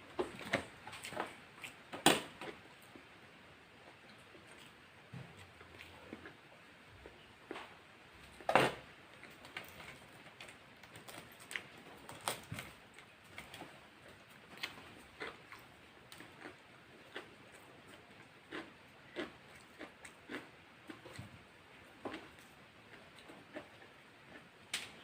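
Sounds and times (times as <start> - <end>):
soft chewing: 0.1 - 25.0.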